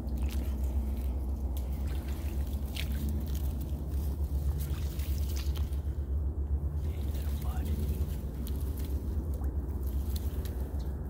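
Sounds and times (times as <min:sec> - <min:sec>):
steady low rumble: 0:00.0 - 0:11.0
water squishing and trickling: 0:00.0 - 0:11.0.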